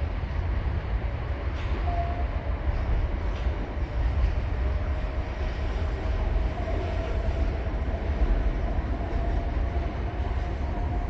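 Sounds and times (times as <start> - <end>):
diesel train rumbling by: 0.0 - 11.0.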